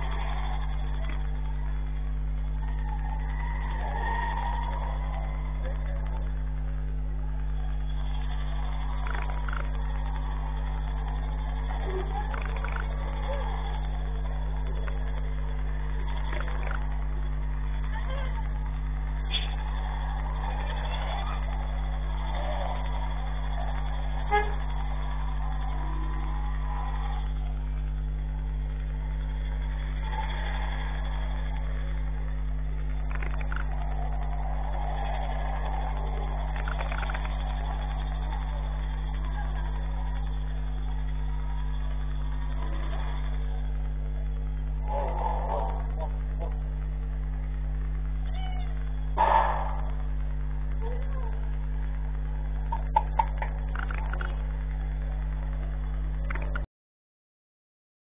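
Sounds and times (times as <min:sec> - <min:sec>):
street traffic passing: 0:00.0 - 0:56.0
low electrical hum with hiss: 0:00.0 - 0:56.6.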